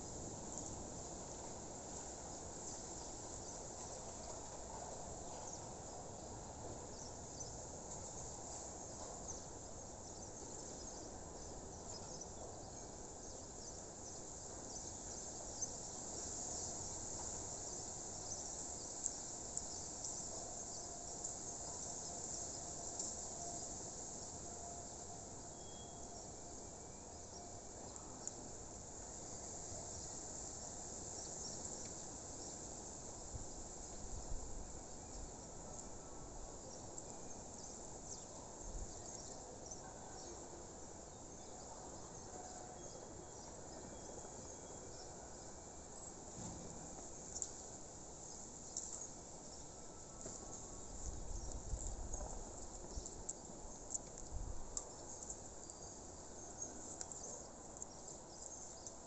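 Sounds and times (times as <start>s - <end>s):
high insect chorus: 0.0s - 59.0s.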